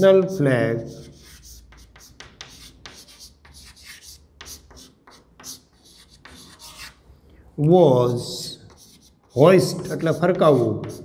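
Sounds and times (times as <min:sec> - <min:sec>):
chalk scratching on chalkboard: 0:00.2 - 0:07.0, 0:08.2 - 0:11.0.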